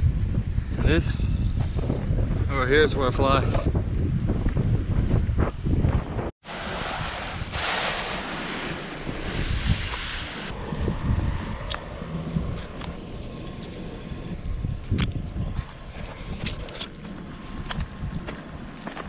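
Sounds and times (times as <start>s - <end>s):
wind buffeting microphone: 0.0s - 6.4s, 9.0s - 19.0s.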